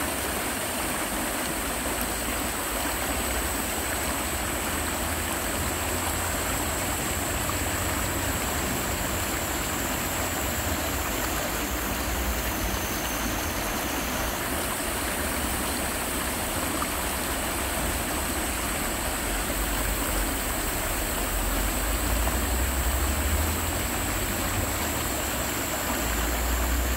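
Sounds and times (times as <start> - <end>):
stream rushing over stones: 0.0 - 26.9.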